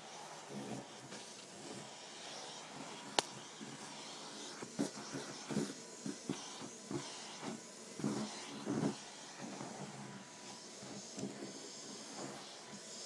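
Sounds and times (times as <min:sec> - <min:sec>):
vacuum cleaner hissing: 0:00.0 - 0:13.0.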